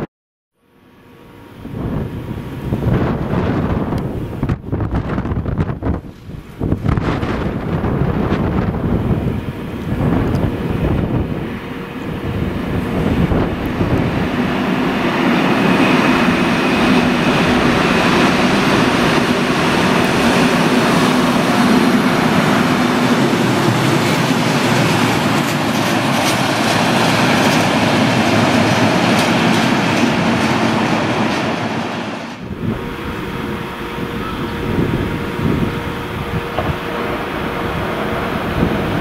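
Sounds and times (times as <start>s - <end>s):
diesel locomotive engine drone: 0.6s - 39.0s.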